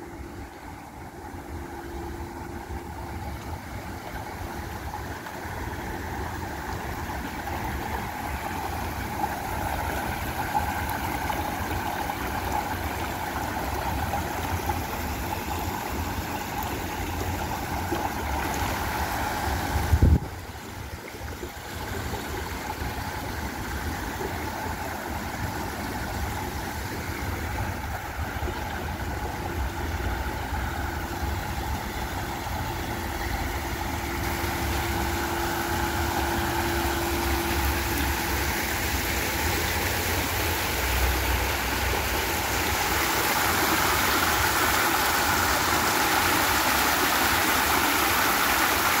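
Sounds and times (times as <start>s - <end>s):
water splashing over rocks: 2.6s - 49.0s.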